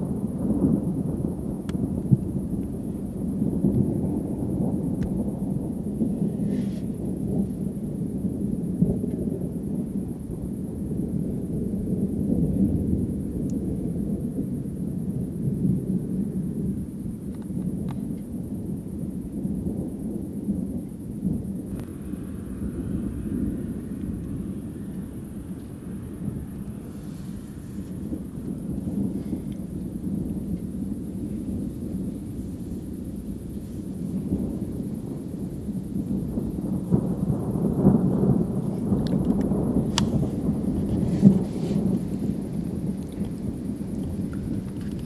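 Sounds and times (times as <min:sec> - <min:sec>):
distant thunder rumbling: 0:00.0 - 0:45.0.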